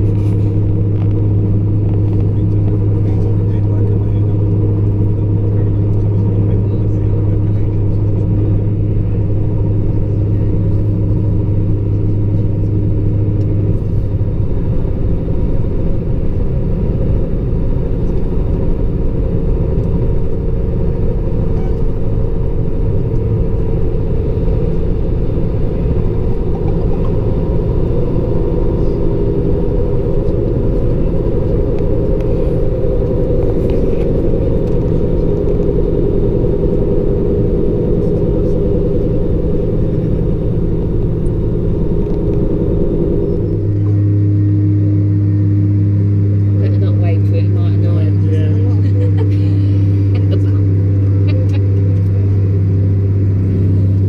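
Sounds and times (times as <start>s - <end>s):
diesel engine rumble: 0.0s - 54.0s
higher hum: 0.0s - 54.0s
strong low drone: 0.0s - 54.0s.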